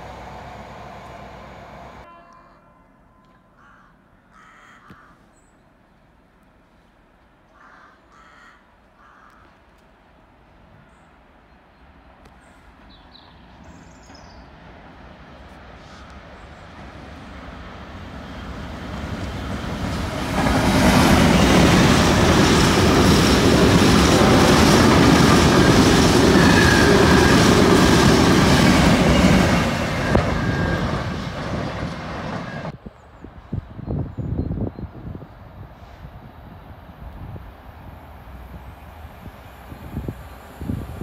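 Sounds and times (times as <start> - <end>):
freight train passing: 0.0 - 2.2, 10.0 - 41.0.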